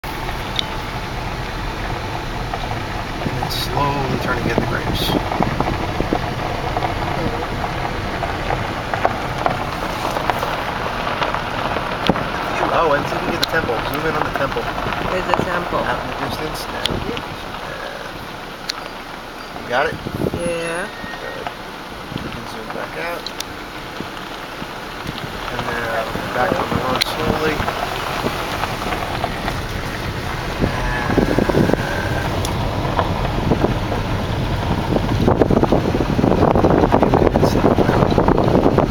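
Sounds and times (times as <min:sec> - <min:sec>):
wind on microphone: 0:00.0 - 0:18.7, 0:19.8 - 0:22.6, 0:23.2 - 0:38.9
tyres rolling over gravel: 0:00.0 - 0:38.9.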